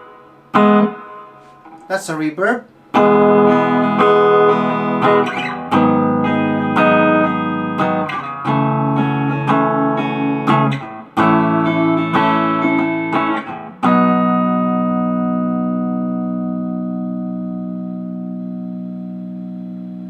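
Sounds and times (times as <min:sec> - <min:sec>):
electric guitar strummed chords: 0:00.0 - 0:20.0.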